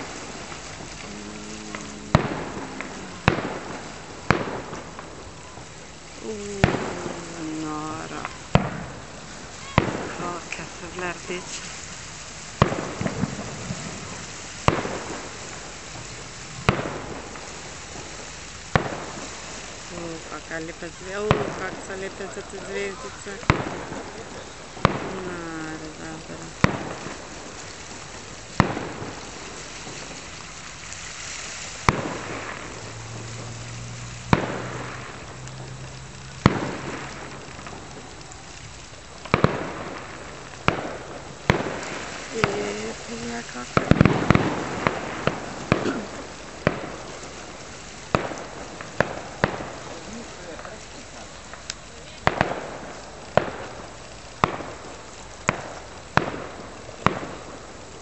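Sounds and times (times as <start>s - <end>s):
fireworks bursting with echo: 0.0s - 58.0s
steady hiss: 0.0s - 58.0s.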